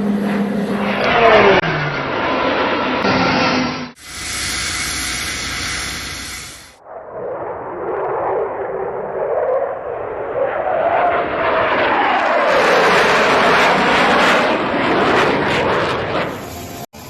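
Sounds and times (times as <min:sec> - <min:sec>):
jet aircraft roaring past: 0:00.0 - 0:17.0.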